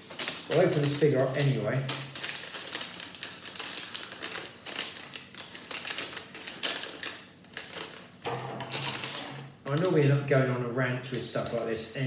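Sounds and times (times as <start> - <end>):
paper bag rustling and crinkling: 0.0 - 10.0.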